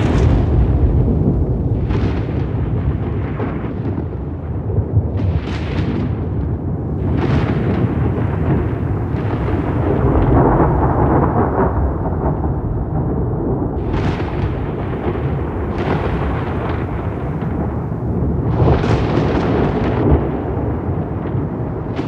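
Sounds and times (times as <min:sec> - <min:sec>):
crackling thunder peals: 0:00.0 - 0:22.0
rolling thunder rumble: 0:00.0 - 0:22.0.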